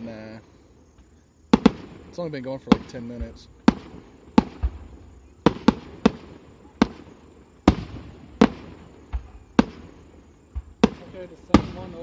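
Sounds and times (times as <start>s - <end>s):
fireworks bursting with echo: 1.0s - 12.0s.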